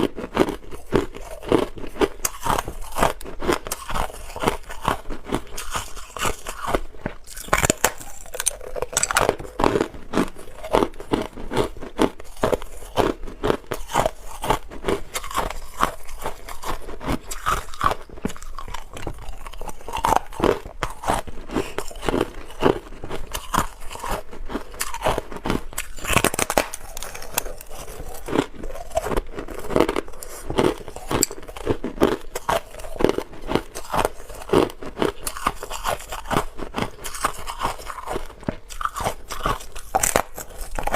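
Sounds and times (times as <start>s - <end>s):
person crunching ice: 0.0s - 40.9s.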